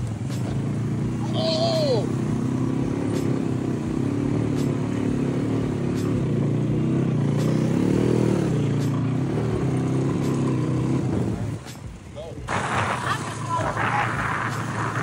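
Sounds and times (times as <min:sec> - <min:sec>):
quad engine revving: 0:00.0 - 0:11.8, 0:12.5 - 0:15.0.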